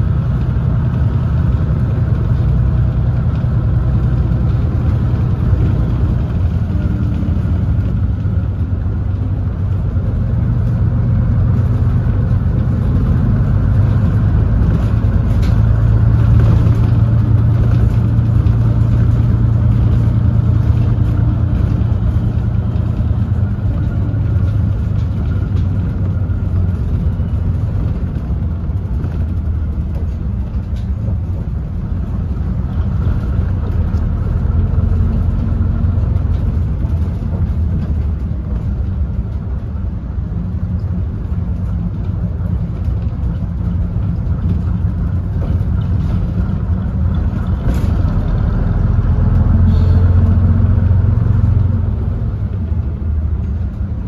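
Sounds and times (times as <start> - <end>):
bus diesel engine rumble: 0.0 - 54.0.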